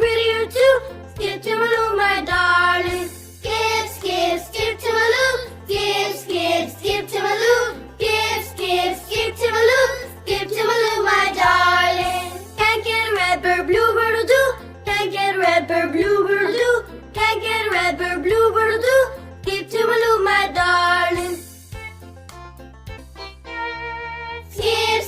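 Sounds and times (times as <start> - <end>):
simple instrumental backing: 0.0 - 25.0.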